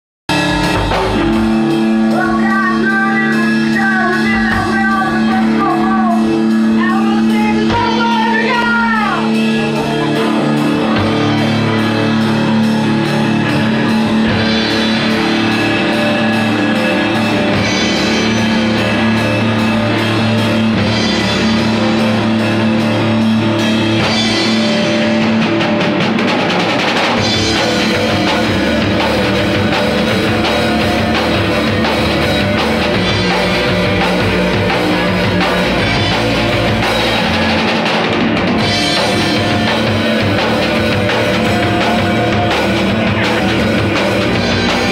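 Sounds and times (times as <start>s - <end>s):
drum kit beat: 0.3s - 44.9s
electric guitar: 0.3s - 44.9s.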